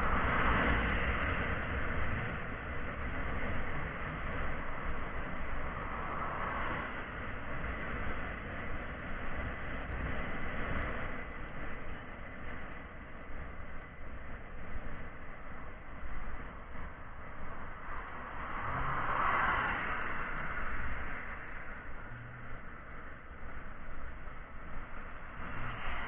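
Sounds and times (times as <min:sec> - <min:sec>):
rumbling hiss: 0:00.0 - 0:26.0
thin high whine: 0:00.0 - 0:26.0.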